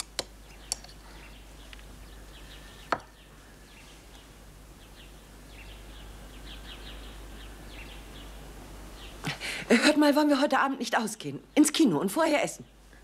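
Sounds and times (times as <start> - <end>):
birds chirping: 0.0 - 12.9
low hiss: 0.0 - 13.0.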